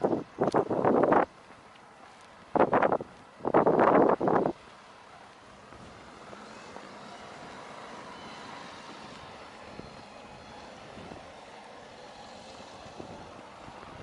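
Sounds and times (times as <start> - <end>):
wind: 0.0 - 14.0
faint distant hum: 1.4 - 14.0.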